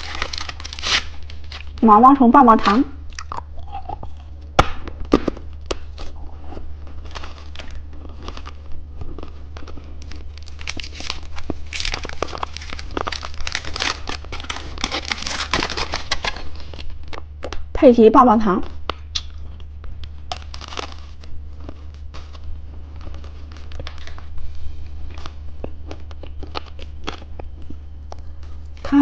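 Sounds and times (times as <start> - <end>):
plastic wrapper crinkling: 0.0 - 17.7, 18.6 - 28.9
steady low hum: 0.0 - 29.0.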